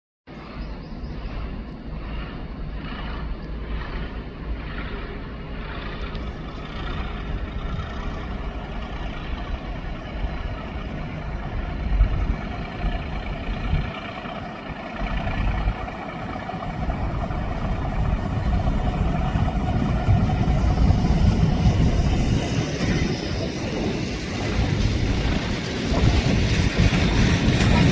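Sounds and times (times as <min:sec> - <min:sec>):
diesel locomotive engine running: 0:00.3 - 0:27.9
wind rumbling on microphone: 0:00.3 - 0:27.9.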